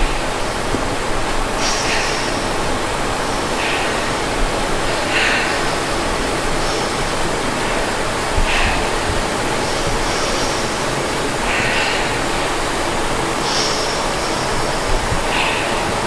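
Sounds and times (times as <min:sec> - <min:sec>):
steady loud rushing noise: 0:00.0 - 0:16.0.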